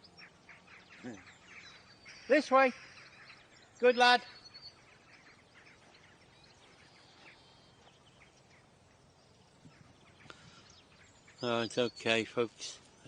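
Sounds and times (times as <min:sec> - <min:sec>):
distant bird calls: 0:00.0 - 0:13.0.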